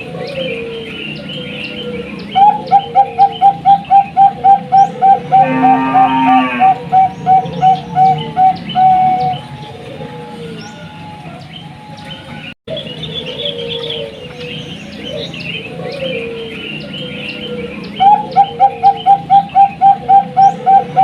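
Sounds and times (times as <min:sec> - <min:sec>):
small birds chirping: 0:00.0 - 0:05.5, 0:06.6 - 0:21.0
dove cooing: 0:00.0 - 0:21.0.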